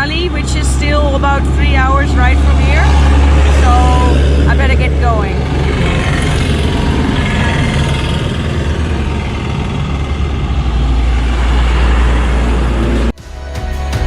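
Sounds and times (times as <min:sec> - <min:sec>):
traffic noise: 0:00.0 - 0:13.2
vehicle engine running: 0:00.0 - 0:13.2.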